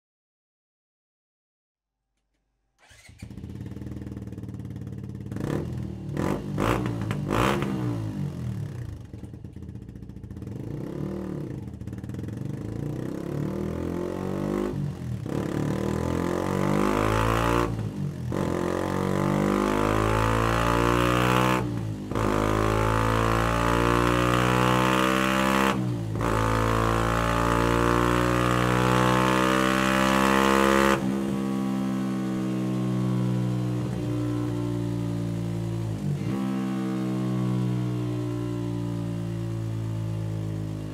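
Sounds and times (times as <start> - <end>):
motorcycle engine revving: 2.8 - 40.9.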